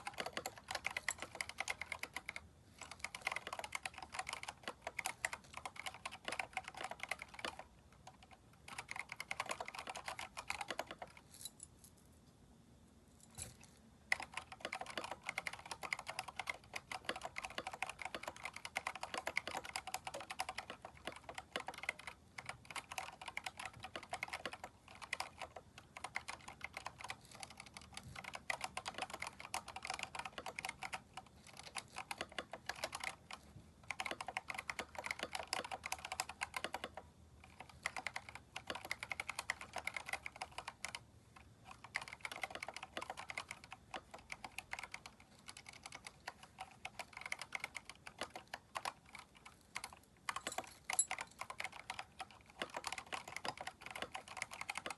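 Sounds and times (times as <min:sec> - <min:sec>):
mechanical keyboard typing: 0:00.0 - 0:11.2, 0:14.1 - 0:54.9.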